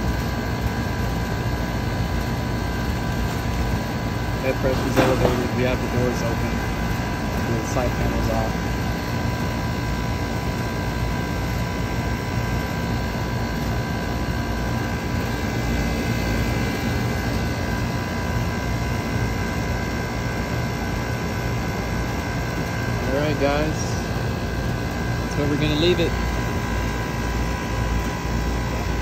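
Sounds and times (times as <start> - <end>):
air conditioning unit humming: 0.0 - 29.0.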